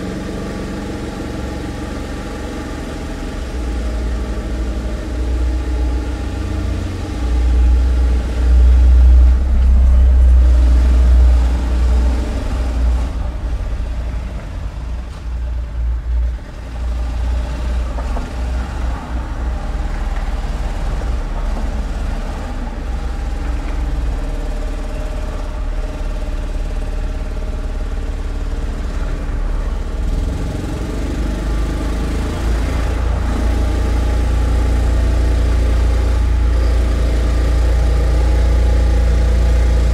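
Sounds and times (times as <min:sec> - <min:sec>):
heavy machine engine rumbling: 0:00.0 - 0:39.9.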